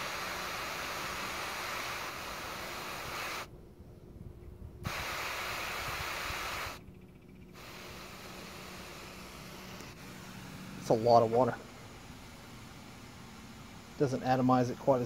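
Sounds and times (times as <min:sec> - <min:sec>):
water hissing from mister nozzle: 0:00.0 - 0:03.5, 0:04.9 - 0:06.8, 0:07.6 - 0:15.0
air conditioner unit humming: 0:00.0 - 0:03.8, 0:05.5 - 0:15.0.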